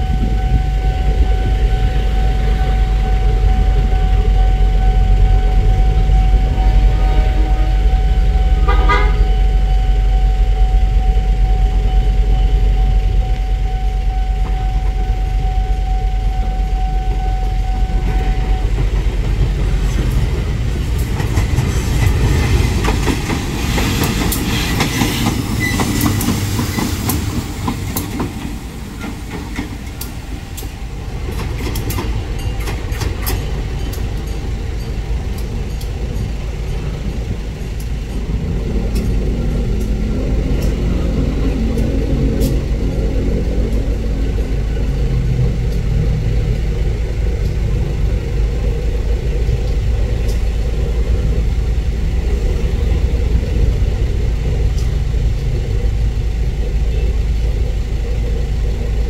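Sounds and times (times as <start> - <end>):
locomotive engine humming: 0.0 - 59.0
wheels clicking on rail: 10.6 - 59.0.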